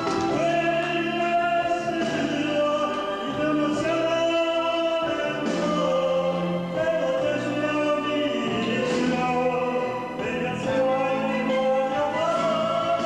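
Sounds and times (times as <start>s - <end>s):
music with singing: 0.0s - 13.0s.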